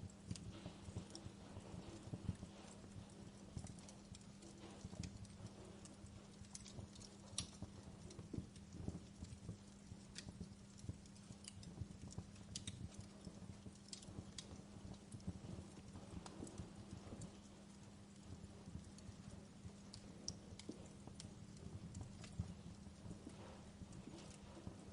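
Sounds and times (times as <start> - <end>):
fireplace crackling: 0.0 - 24.9
steady low hum: 0.0 - 24.9.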